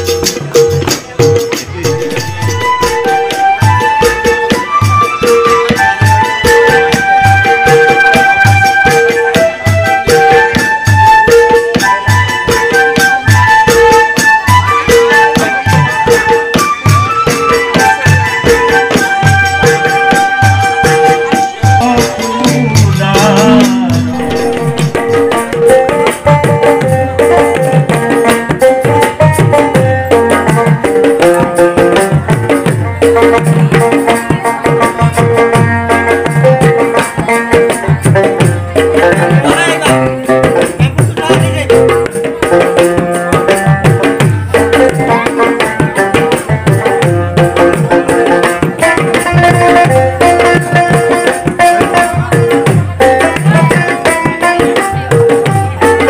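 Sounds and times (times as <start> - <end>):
fast hand-drum strokes: 0.0 - 56.0
folk dance music: 0.0 - 56.0.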